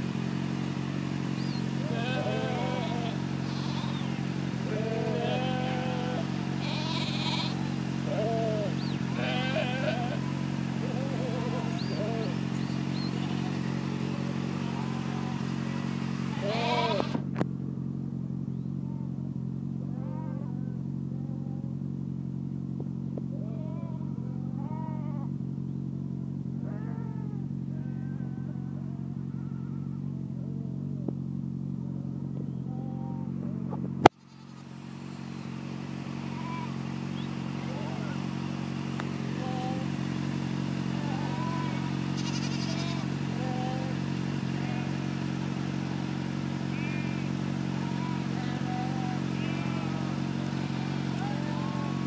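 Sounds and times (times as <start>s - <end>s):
sheep bleating: 0.0s - 17.3s, 18.7s - 21.9s, 23.3s - 25.4s, 26.6s - 31.1s, 32.4s - 52.0s
motorcycle engine idling: 0.0s - 52.0s.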